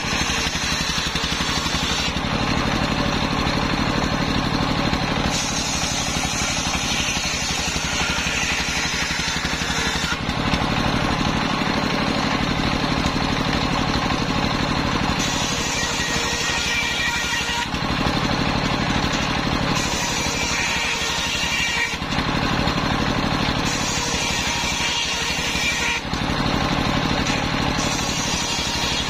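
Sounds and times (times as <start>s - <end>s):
circular saw cutting log: 0.0s - 29.0s
diesel engine running: 0.0s - 29.0s.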